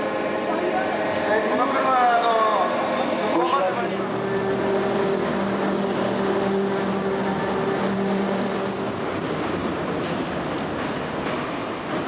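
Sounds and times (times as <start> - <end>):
overhead crane humming: 0.0 - 11.8
machinery noise: 0.0 - 12.0.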